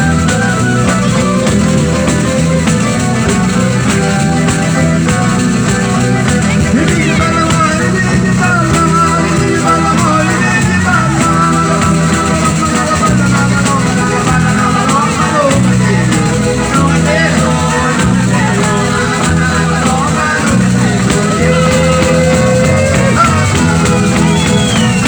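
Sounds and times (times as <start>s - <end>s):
folk dance band music: 0.0s - 25.0s
percussion beat: 0.0s - 25.0s
sliding melody line: 0.0s - 25.0s.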